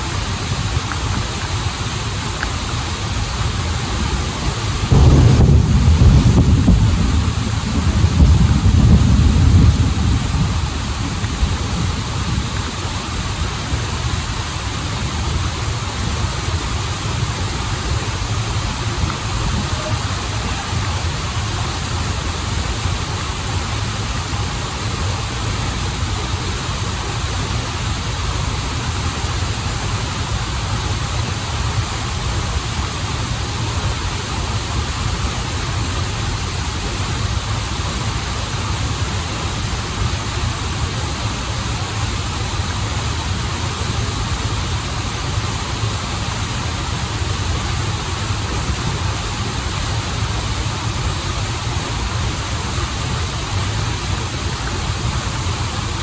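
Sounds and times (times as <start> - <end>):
waterfall and stream running: 0.0 - 56.0.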